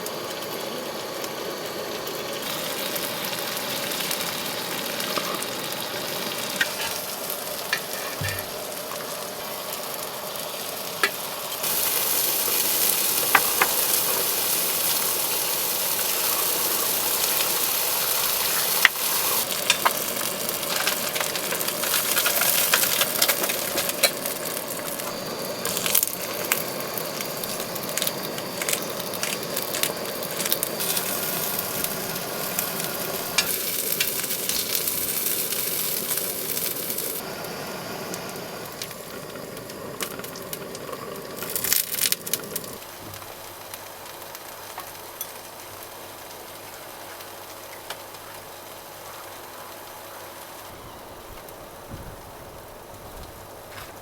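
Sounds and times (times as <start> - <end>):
food sizzling in a hot pan: 0.0 - 54.0.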